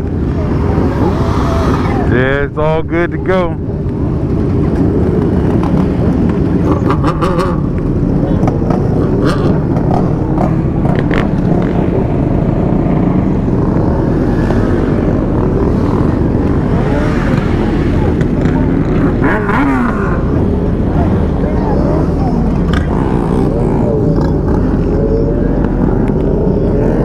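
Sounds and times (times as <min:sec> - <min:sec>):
many motorcycle engines revving: 0:00.0 - 0:27.0.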